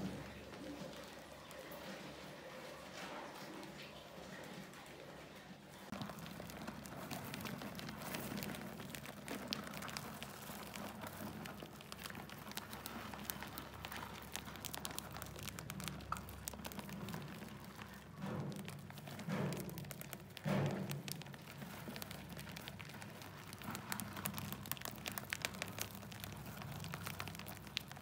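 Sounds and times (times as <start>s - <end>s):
mice scrabbling in plastic bucket: 0.0s - 28.0s.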